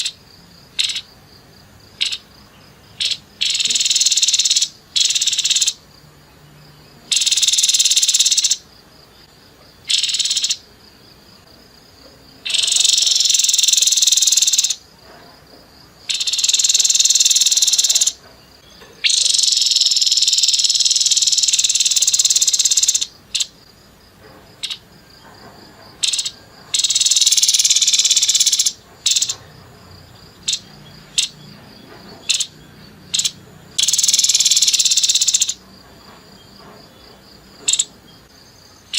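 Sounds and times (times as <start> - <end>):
bird singing harsh rapid song: 0.0 - 1.1, 1.9 - 10.6, 12.4 - 14.8, 16.1 - 23.6, 26.0 - 35.6, 36.3 - 38.9.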